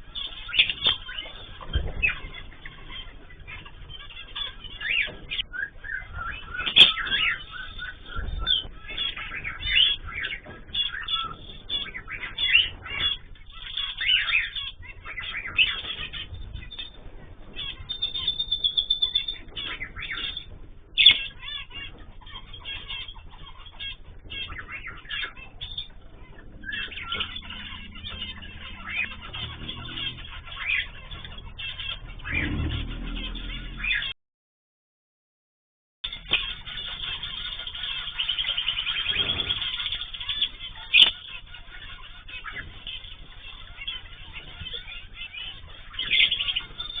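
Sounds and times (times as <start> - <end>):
bird trill: 0.0 - 34.2, 36.0 - 47.0
cage birds chirping: 0.0 - 34.2, 36.0 - 47.0.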